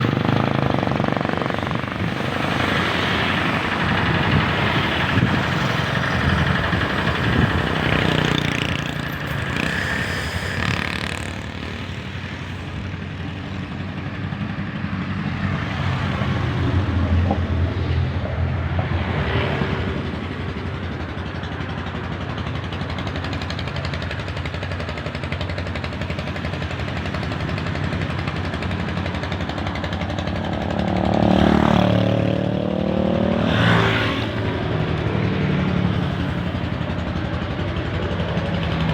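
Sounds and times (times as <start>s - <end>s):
diesel bus engines rumbling: 0.0s - 38.9s.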